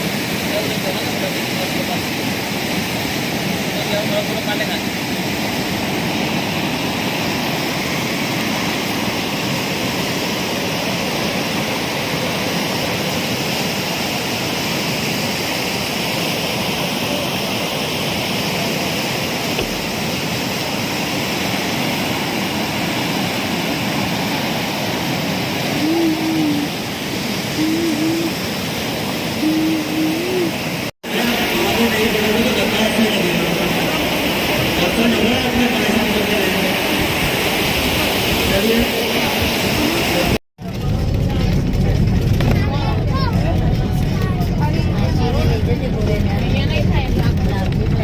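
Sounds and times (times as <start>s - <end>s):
river rushing: 0.0s - 40.4s.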